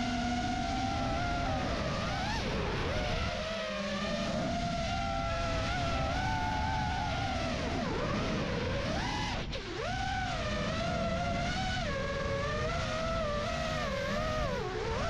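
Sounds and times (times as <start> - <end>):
rc aircraft motors whining: 0.0 - 15.0.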